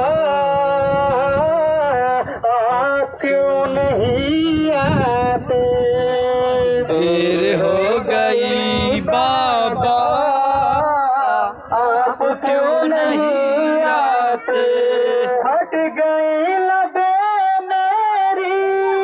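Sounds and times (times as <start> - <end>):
man singing a chant: 0.0 - 19.0.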